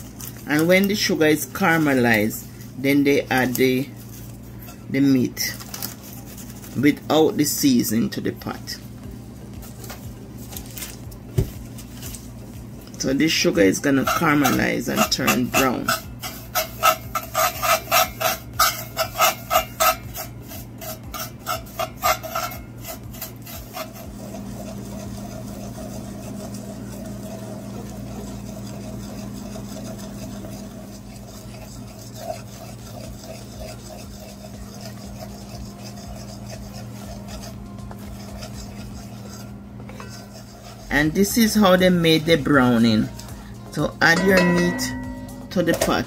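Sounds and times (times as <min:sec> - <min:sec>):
spoon scraping metal pot: 0:00.0 - 0:06.8, 0:13.2 - 0:43.2, 0:44.0 - 0:46.0.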